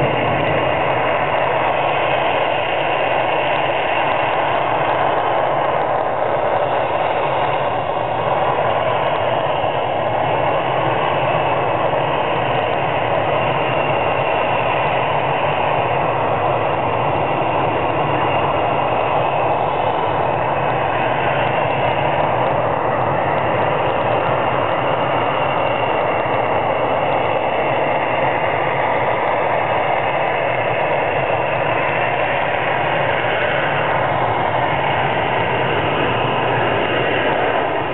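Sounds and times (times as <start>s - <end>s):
light aircraft engines droning: 0.0s - 37.9s.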